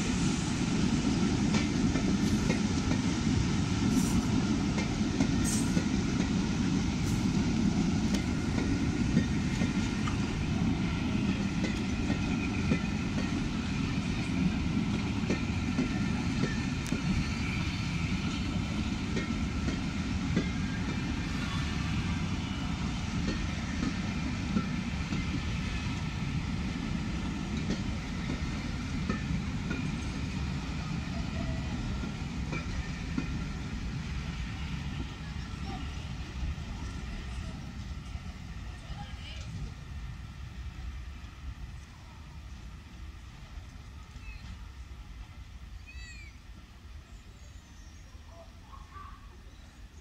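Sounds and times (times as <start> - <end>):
train rolling past: 0.0 - 50.0.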